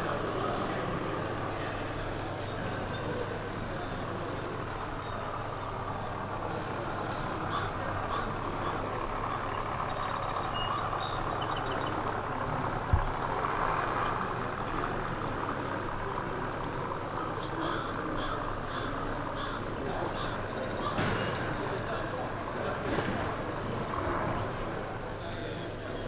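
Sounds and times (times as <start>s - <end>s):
crowd hubbub in a hall: 0.0s - 26.0s.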